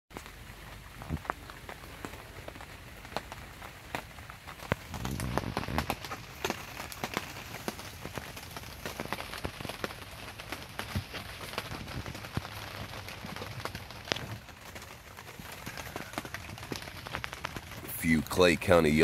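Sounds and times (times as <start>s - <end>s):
rain tapping on plastic sheeting: 0.1s - 19.0s.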